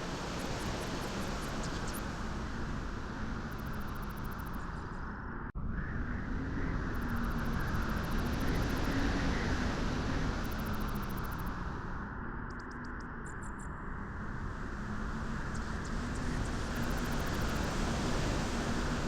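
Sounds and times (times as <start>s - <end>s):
wind blowing at beach: 0.0s - 12.2s, 13.8s - 19.0s.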